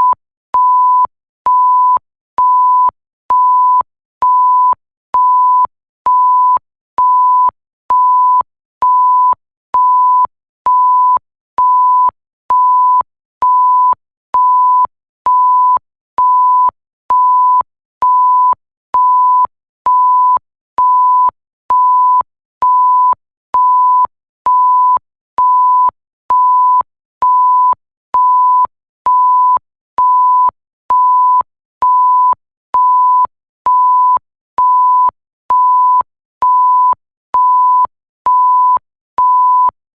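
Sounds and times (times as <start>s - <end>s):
electronic censor bleeps: 0.0s - 39.8s.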